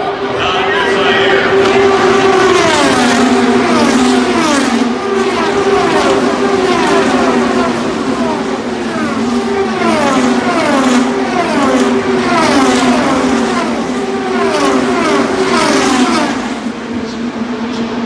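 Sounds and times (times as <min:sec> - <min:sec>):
drone of racing engines: 0:00.0 - 0:18.0
race cars passing at speed: 0:00.0 - 0:18.0.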